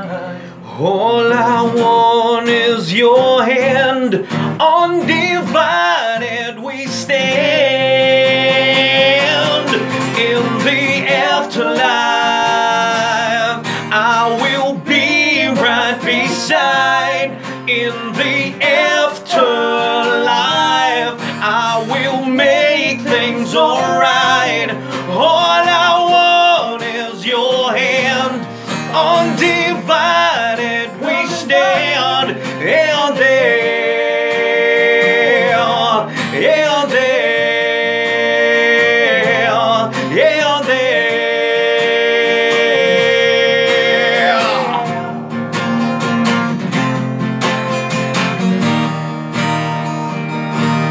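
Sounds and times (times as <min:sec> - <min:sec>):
two men singing: 0:00.0 - 0:45.4
acoustic guitar: 0:00.0 - 0:50.9.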